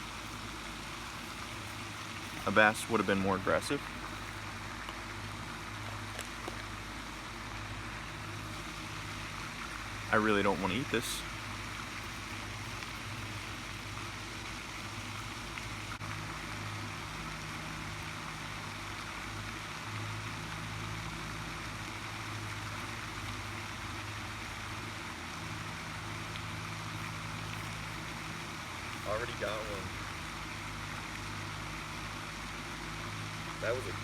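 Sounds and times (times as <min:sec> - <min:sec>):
low outdoor hum: 0:00.0 - 0:34.0.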